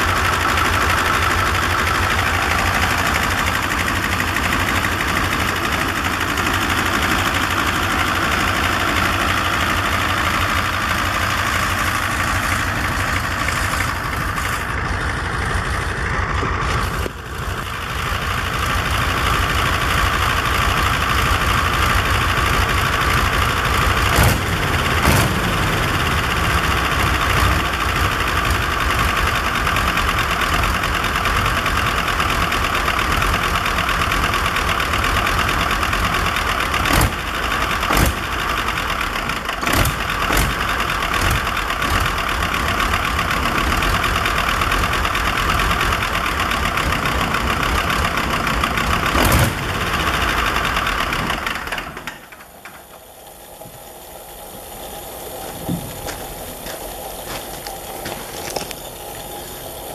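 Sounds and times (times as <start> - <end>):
radial diesel engine running: 0.0 - 59.9.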